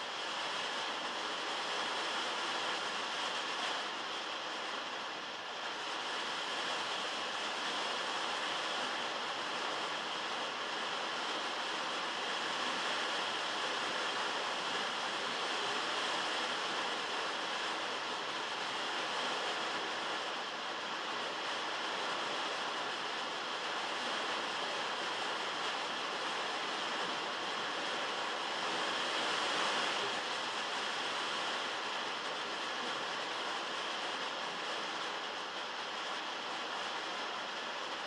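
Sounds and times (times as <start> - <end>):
heavy rain on a metal roof: 0.0 - 38.0.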